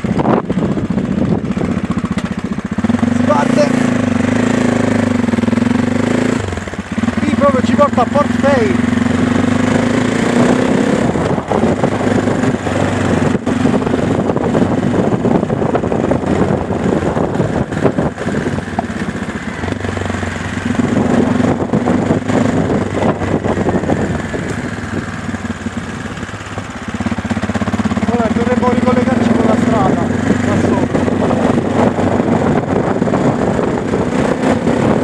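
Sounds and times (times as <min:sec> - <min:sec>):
car engine drone: 0:00.0 - 0:35.0
road and tyre noise: 0:00.0 - 0:35.0.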